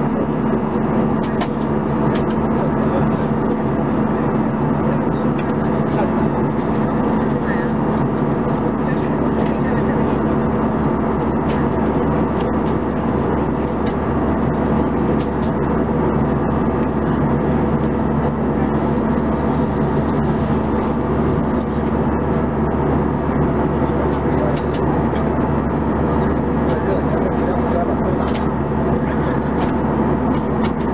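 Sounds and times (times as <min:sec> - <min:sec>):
airplane cabin noise: 0:00.0 - 0:30.9.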